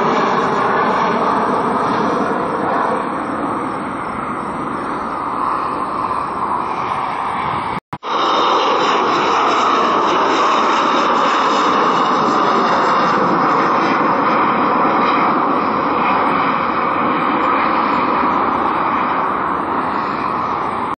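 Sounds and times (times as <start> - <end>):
faint high whine: 0.0 - 21.0
jet engine roar: 0.0 - 21.0.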